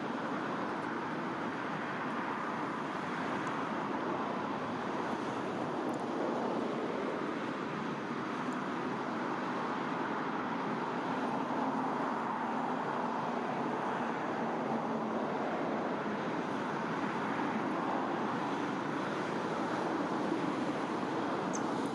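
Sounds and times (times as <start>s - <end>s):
river rushing over stones: 0.0s - 21.9s.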